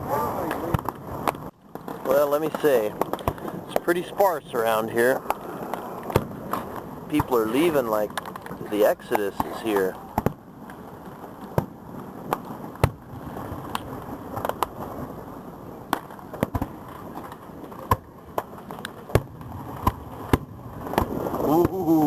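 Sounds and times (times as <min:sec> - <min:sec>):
background rumble: 0:00.0 - 0:22.0
fireworks popping and banging: 0:00.0 - 0:22.0.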